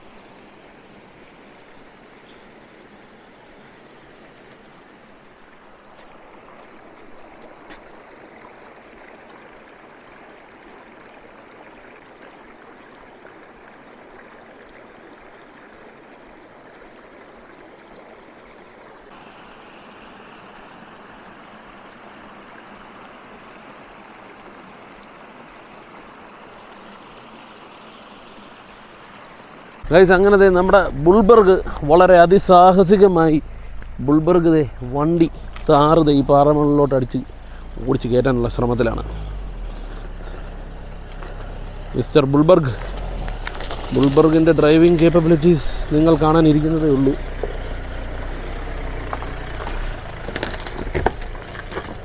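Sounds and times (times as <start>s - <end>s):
stream running over stones: 0.0s - 52.0s
water spilling over weir: 5.8s - 52.0s.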